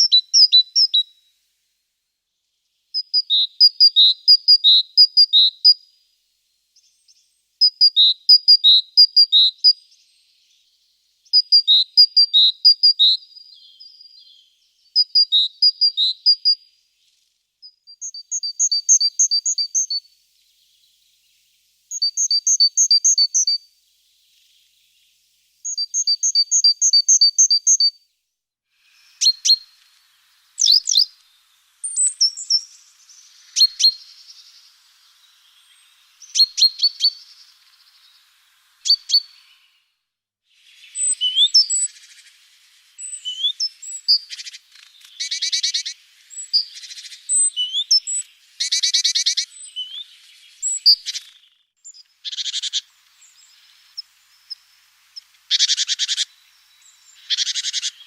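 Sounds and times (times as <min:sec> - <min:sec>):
songbirds singing: 0:00.0 - 0:01.5, 0:02.3 - 0:28.1, 0:28.8 - 0:40.0, 0:40.6 - 0:58.0.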